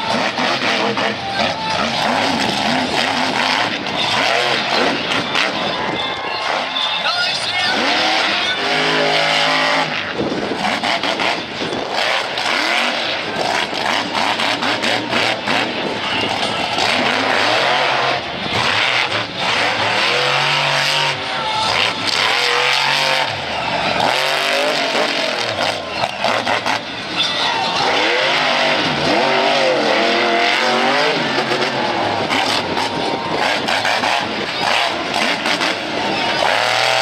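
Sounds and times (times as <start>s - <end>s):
arena noise: 0.0s - 37.0s
monster truck engine revving: 0.0s - 37.0s.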